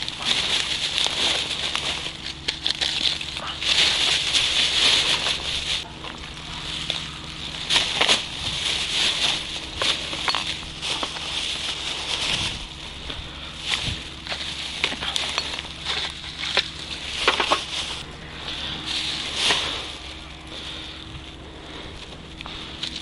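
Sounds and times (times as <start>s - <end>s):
crackles and snaps: 0.0s - 23.0s
faint low hum: 0.0s - 23.0s
plastic bag crinkling: 0.0s - 23.0s.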